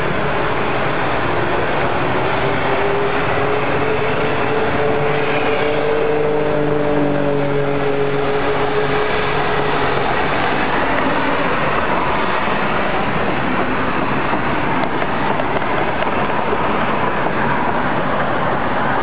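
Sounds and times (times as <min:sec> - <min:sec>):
long steady rising tone: 0:00.0 - 0:19.0
steam locomotive rushing noise: 0:00.0 - 0:19.0.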